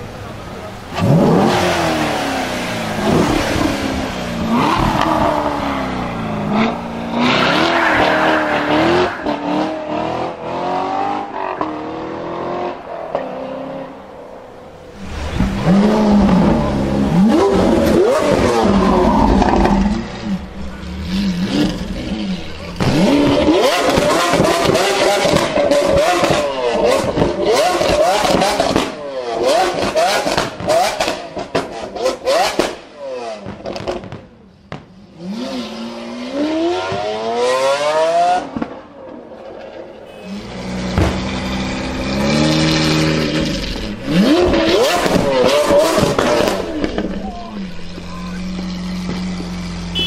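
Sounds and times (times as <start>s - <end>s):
supercar engines revving: 0.0s - 34.1s, 35.1s - 50.0s.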